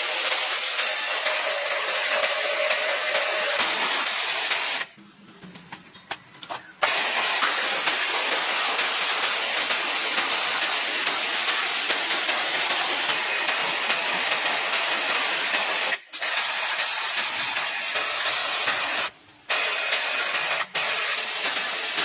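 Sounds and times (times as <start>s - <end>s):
steady loud hiss: 0.0s - 5.0s, 6.8s - 22.0s.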